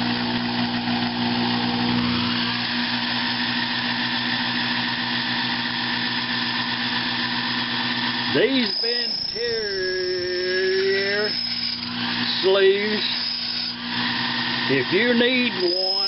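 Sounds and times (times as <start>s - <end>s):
metal lathe running: 0.0s - 16.0s.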